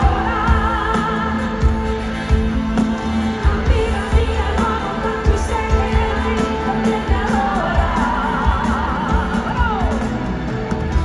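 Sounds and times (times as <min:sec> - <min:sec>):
woman singing: 0:00.0 - 0:02.6, 0:03.2 - 0:10.2
drums beat: 0:00.0 - 0:11.0.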